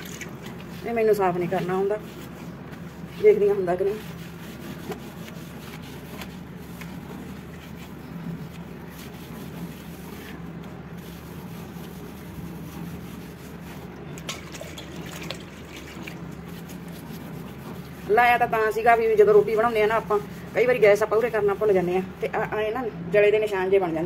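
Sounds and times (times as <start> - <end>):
wet cloth wiping shelf: 0.0 - 22.9
steady low hum: 0.0 - 24.0.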